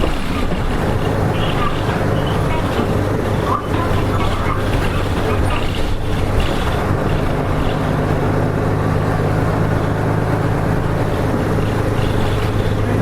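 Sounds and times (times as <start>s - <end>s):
bus diesel engine running: 0.0s - 13.0s
road noise: 0.0s - 13.0s.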